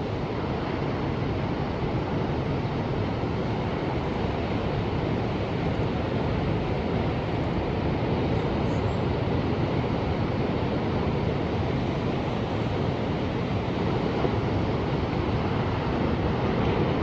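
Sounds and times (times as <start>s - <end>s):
ocean surf: 0.0s - 17.0s.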